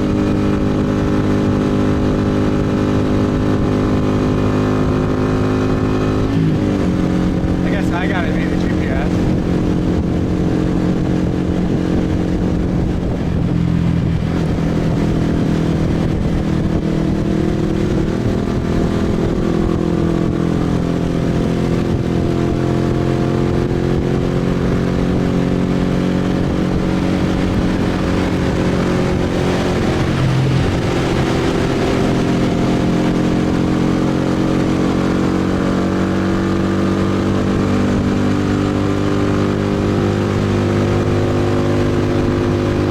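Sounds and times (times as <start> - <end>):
motorbike engine running: 0.0 - 42.9.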